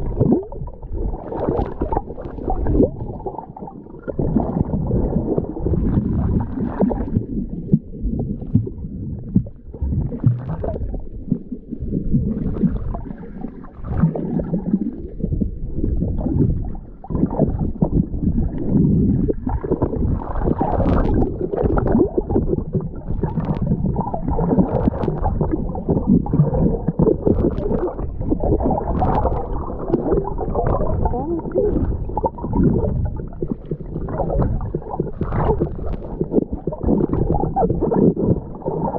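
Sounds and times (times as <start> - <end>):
low uneven rumble: 0.0 - 38.9
underwater sloshing and gurgling: 0.0 - 38.9.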